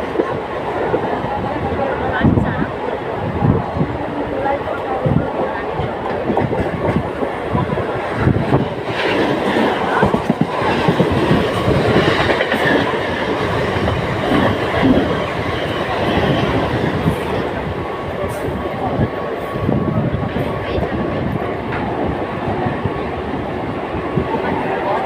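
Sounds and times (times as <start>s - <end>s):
train rumbling and rattling: 0.0s - 25.0s.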